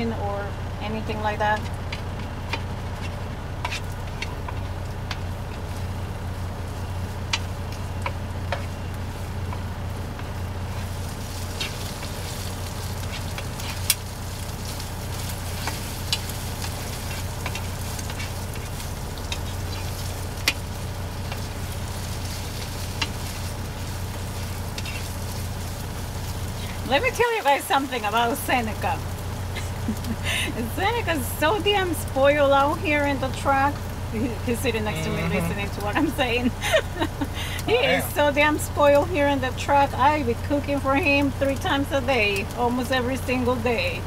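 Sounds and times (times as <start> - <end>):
food sizzling in a frying pan: 0.0 - 44.0
steady low hum: 0.0 - 44.0.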